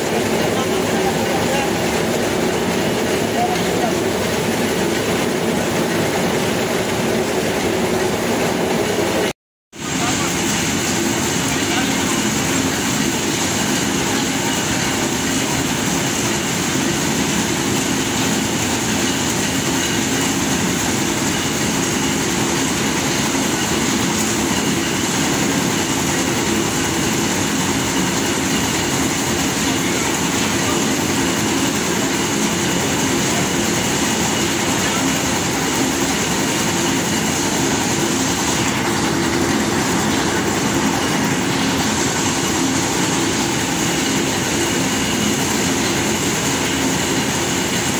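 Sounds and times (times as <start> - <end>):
corn mill machinery din: 0.0 - 47.9.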